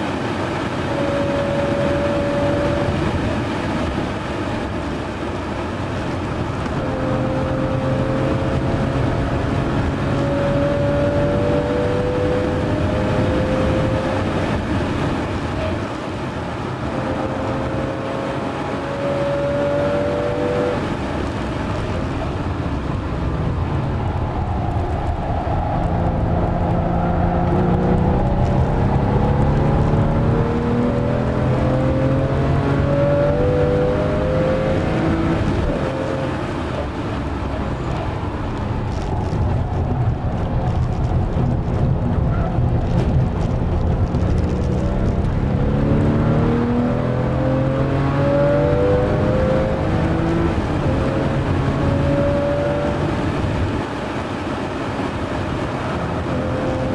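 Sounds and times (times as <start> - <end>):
car engine from inside cabin: 0.0 - 56.9
wind noise: 0.0 - 56.9.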